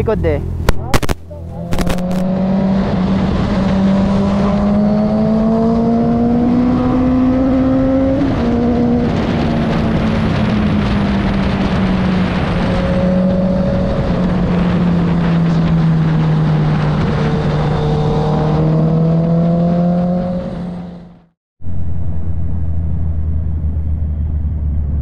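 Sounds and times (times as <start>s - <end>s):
lower engine note: 0.0s - 25.0s
motorcycle engine cruising: 0.0s - 25.0s
wind and road noise: 0.0s - 25.0s.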